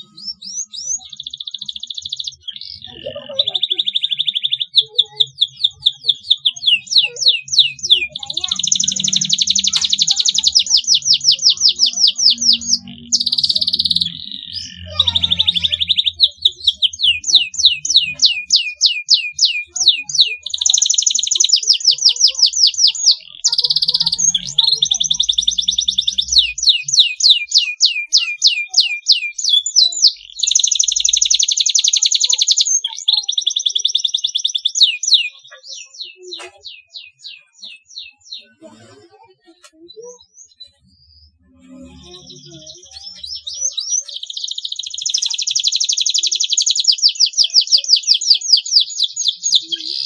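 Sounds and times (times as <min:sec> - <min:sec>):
canary singing: 0:00.0 - 0:50.0.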